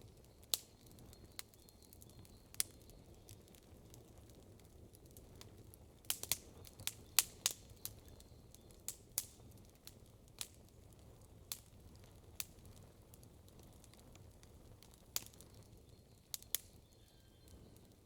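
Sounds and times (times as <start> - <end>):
campfire crackling and popping: 0.0 - 18.0
low rumble of burning fire: 0.0 - 18.0.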